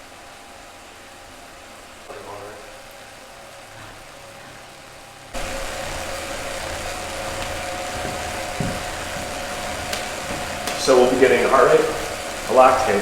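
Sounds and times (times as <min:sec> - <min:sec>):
bike trainer whirring and whining: 0:00.0 - 0:13.0.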